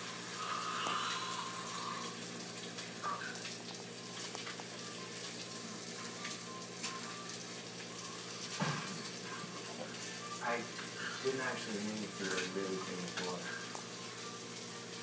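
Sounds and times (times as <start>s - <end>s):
steady hiss and hum: 0.0s - 15.0s.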